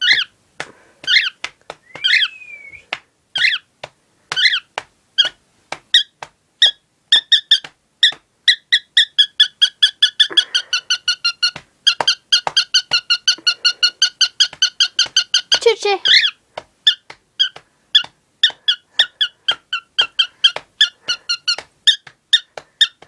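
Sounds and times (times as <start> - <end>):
cockatiel chirping: 0.0 - 0.3, 1.0 - 1.4, 2.0 - 2.4, 3.4 - 3.7, 4.3 - 23.0.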